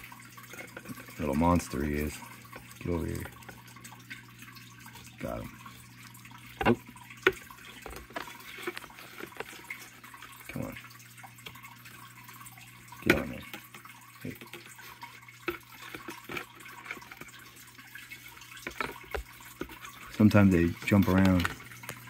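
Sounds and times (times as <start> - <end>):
water splashing and dripping: 0.0 - 22.0.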